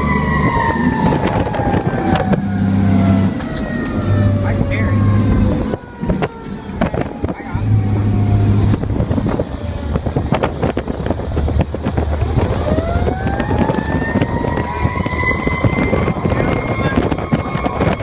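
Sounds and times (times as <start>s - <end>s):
fire engine running: 0.0s - 18.0s
road and wind noise: 0.0s - 18.0s
siren wailing: 0.0s - 18.0s.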